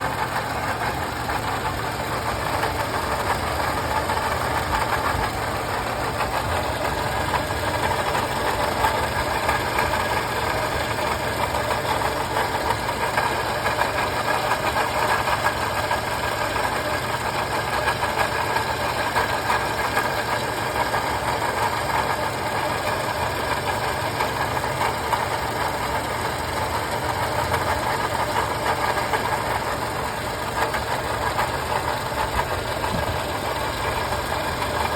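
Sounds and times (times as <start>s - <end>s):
car engine idling: 0.0s - 34.9s
engine rattle: 0.0s - 34.9s.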